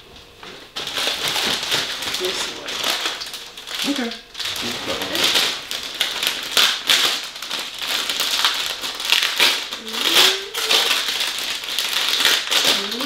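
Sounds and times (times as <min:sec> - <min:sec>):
wrapping paper tearing and crumpling: 0:00.8 - 0:13.0.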